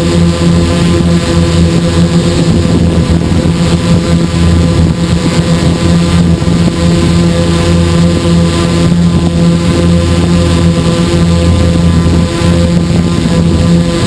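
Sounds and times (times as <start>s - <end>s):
drone motors humming: 0.0s - 14.0s
wind noise on microphone: 0.0s - 14.0s.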